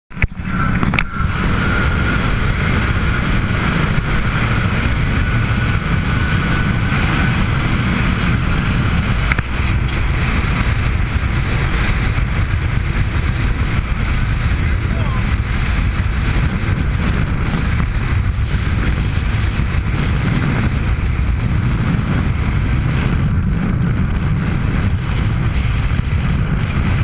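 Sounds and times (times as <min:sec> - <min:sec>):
wind buffeting microphone: 0:00.1 - 0:27.0
speedboat engines running hard: 0:00.2 - 0:27.0.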